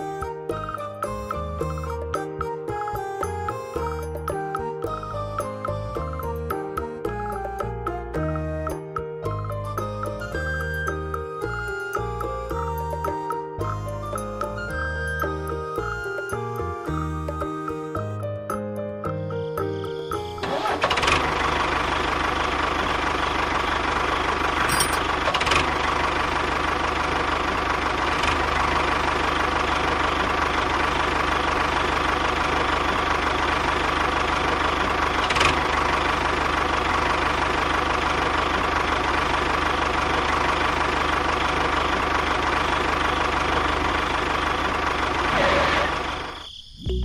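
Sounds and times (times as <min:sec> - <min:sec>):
tractor engine running: 0:00.0 - 0:46.4.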